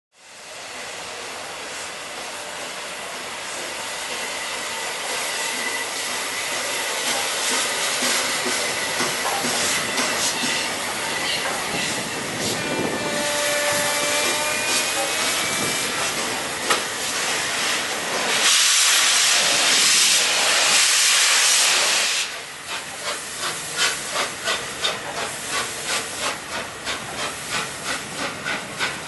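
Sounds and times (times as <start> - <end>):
steam locomotive rolling past: 0.2 - 29.0
steam hissing: 0.3 - 29.0.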